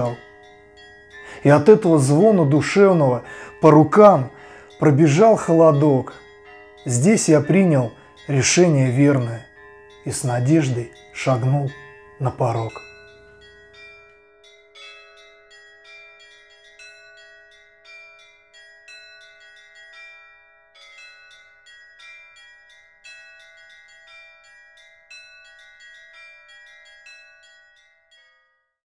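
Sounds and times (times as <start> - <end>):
church bells ringing: 0.0 - 27.8.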